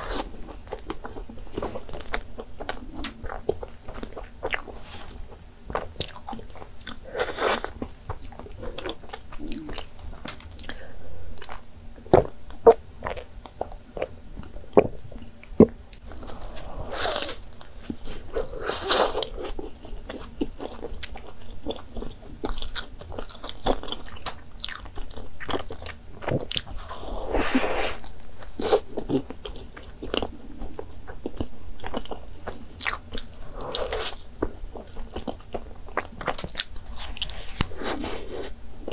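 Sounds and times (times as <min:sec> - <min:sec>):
person chewing and eating: 0:00.0 - 0:38.9.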